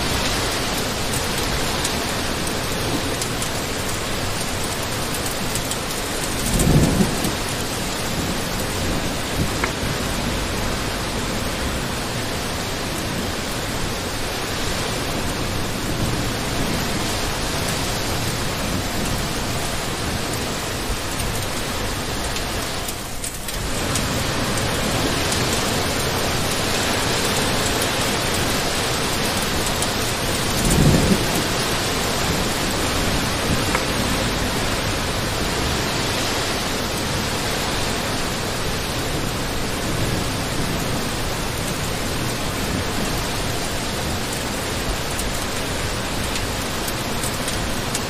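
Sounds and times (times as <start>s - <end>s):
heavy rain hissing: 0.0s - 48.0s.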